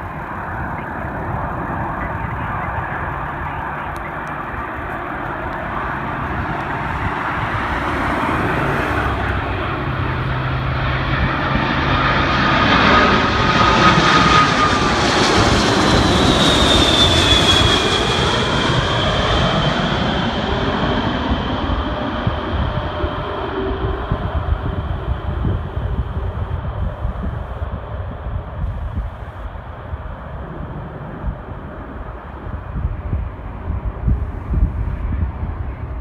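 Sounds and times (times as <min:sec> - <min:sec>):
airliner passing: 0:00.0 - 0:36.0
jet engine whine dropping in pitch: 0:00.0 - 0:36.0.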